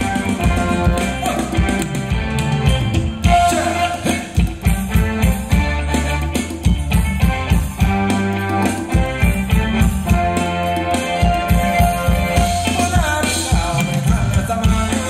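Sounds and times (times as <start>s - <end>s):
drums and bass beat: 0.0s - 15.0s
live band dance music: 0.0s - 15.0s.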